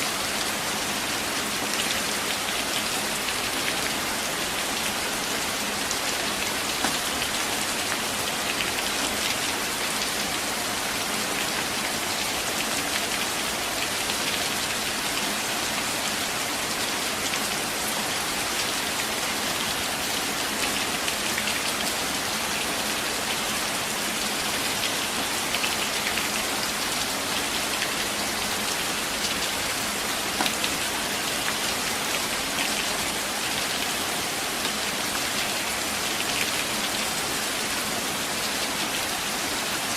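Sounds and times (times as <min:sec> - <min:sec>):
rain on leaves and ground: 0:00.0 - 0:39.9.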